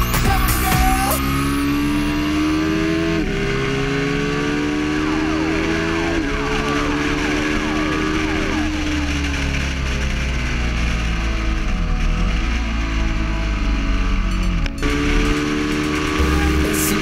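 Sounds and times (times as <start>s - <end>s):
motorcycle engine accelerating: 0.0s - 17.0s
wind and road noise: 0.8s - 17.0s.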